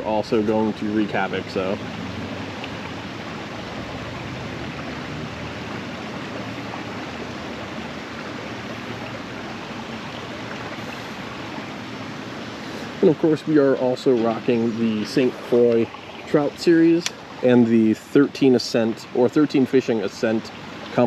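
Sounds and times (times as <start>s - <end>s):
creek water running: 0.0s - 21.0s.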